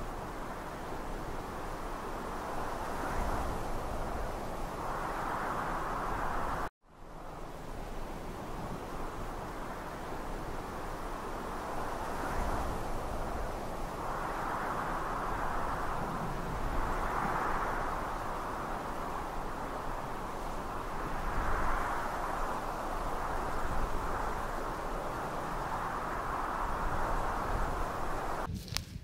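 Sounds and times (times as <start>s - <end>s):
strong wind gusting: 0.0s - 29.0s
wind buffeting microphone: 0.0s - 29.0s.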